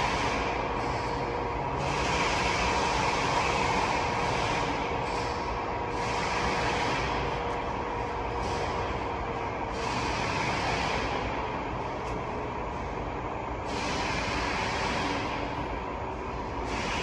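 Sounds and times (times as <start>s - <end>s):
faint constant hum: 0.0s - 17.0s
steady mechanical noise: 0.0s - 17.0s.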